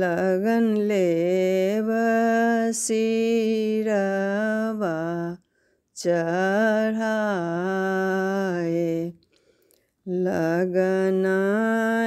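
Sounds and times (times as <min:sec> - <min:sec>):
woman singing unaccompanied: 0:00.0 - 0:05.4, 0:06.0 - 0:09.2, 0:10.0 - 0:12.0.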